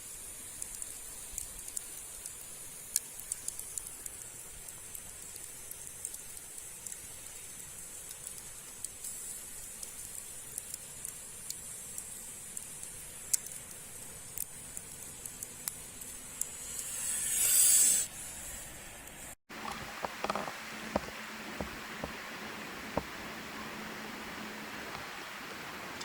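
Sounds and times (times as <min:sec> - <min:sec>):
small crackles and ticks: 0:00.0 - 0:17.7, 0:19.0 - 0:26.0
rushing hiss: 0:00.0 - 0:26.0
steady high hiss: 0:00.0 - 0:26.0.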